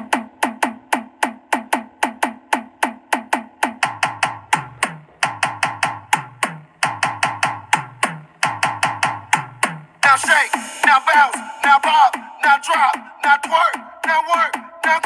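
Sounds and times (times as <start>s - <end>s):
percussion beat of sharp clicks: 0.0s - 15.0s.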